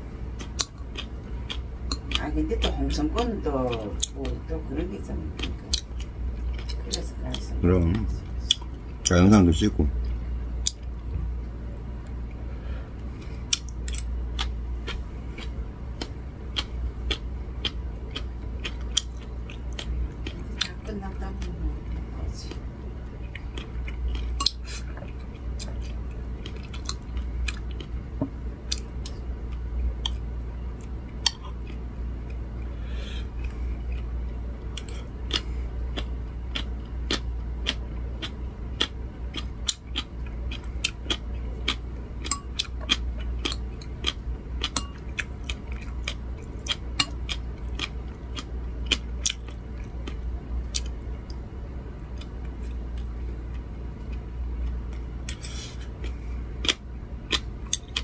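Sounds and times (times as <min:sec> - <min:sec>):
steady low hum: 0:00.0 - 0:58.0
person chewing crunchy food: 0:00.2 - 0:04.4, 0:05.3 - 0:09.2, 0:09.9 - 0:20.8, 0:22.5 - 0:58.0.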